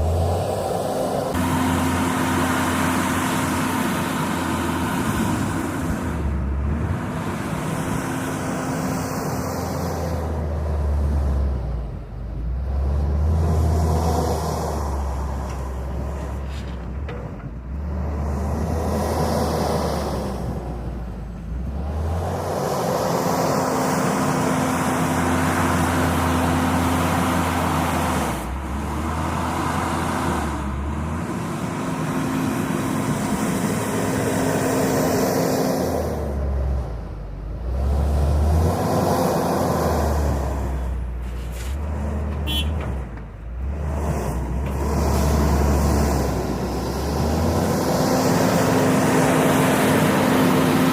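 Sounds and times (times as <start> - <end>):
diesel engine working under load: 0.0 - 50.9.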